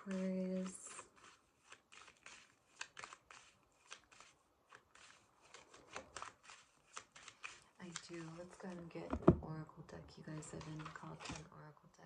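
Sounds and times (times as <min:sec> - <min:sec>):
cards shuffled by hand: 0:00.0 - 0:09.4, 0:10.2 - 0:11.5.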